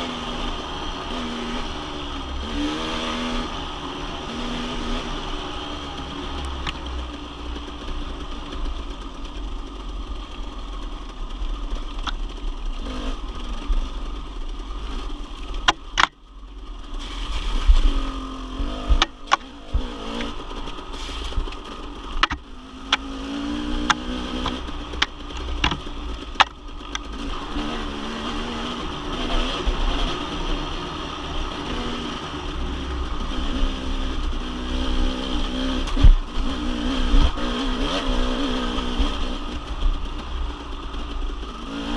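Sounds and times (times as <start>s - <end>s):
dirt bike engine revving: 0.0s - 8.6s, 12.7s - 16.1s, 17.0s - 41.9s.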